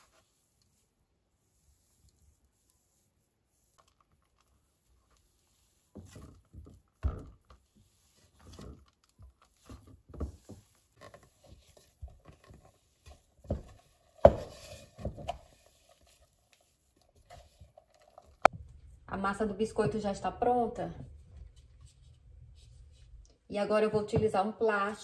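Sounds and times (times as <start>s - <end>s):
hands kneading dough in a bowl: 0.0s - 25.0s.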